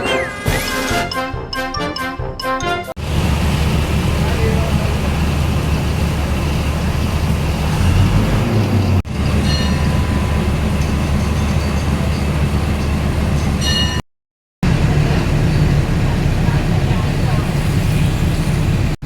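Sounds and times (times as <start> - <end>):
train rumbling on track: 3.0 - 14.0, 14.6 - 19.0.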